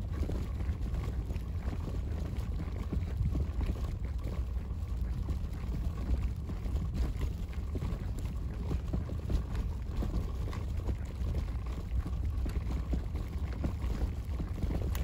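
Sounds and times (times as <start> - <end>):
stroller wheels rolling on asphalt: 0.0 - 15.0
wind on microphone: 0.0 - 15.0.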